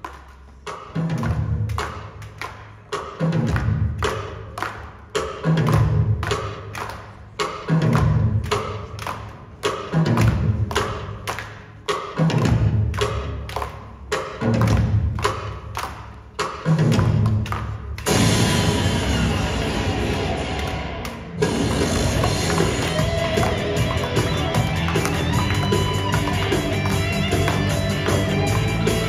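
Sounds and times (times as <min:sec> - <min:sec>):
driving percussion beat: 0:00.5 - 0:29.0.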